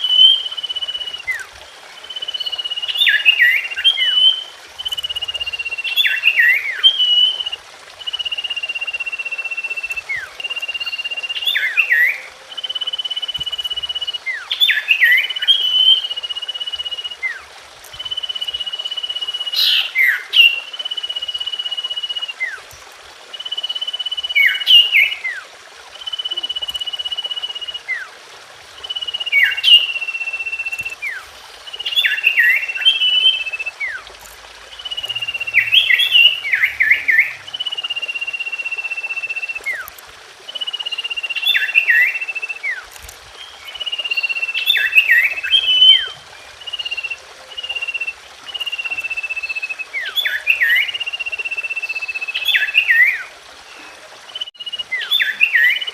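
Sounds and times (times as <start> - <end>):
bird singing high whistles: 0.0 - 22.6, 23.3 - 28.1, 28.8 - 34.0, 34.7 - 39.9, 40.5 - 55.9.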